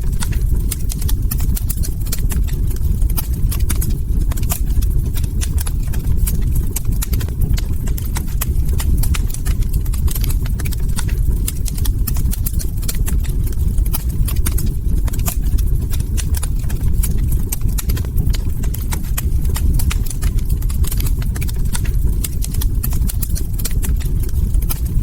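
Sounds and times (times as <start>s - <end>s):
log fire crackling and popping: 0.0s - 25.0s
low rumble of burning: 0.0s - 25.0s.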